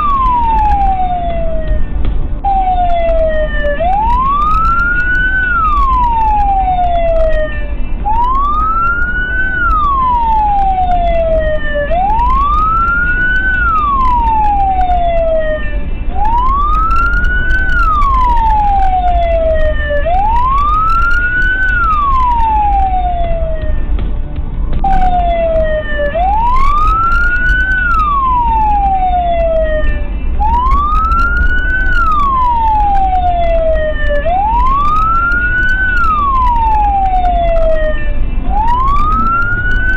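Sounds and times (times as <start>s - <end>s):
siren wailing: 0.0s - 23.9s, 24.8s - 39.9s
steady low rumble: 0.0s - 39.9s.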